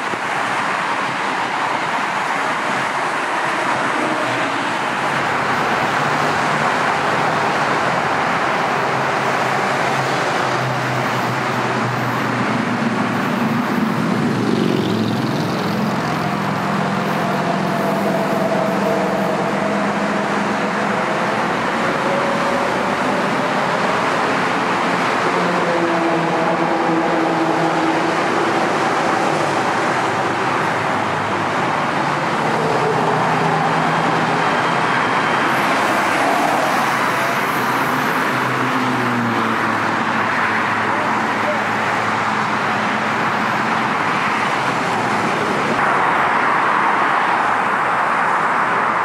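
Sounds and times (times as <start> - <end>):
freeway traffic: 0.0 - 49.0.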